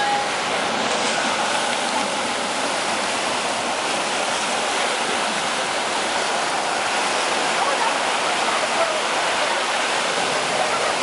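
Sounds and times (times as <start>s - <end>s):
surf washing up sandy beach: 0.0s - 11.0s.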